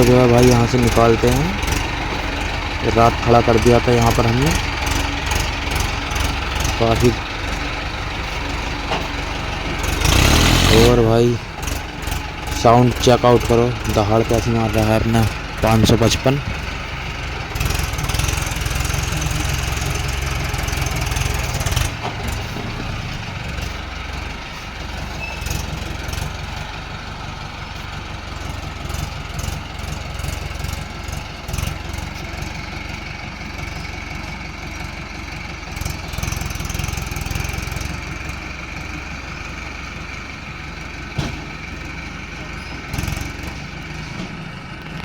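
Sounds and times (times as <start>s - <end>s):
tractor diesel engine roaring: 0.0s - 45.0s.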